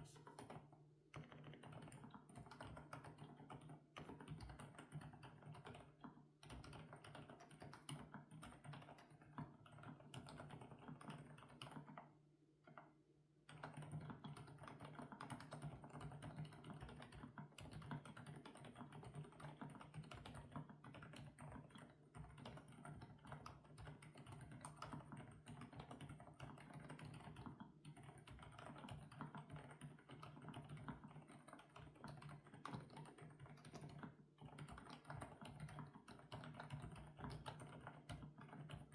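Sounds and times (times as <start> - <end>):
mechanical keyboard typing: 0.0 - 12.0, 13.5 - 38.9.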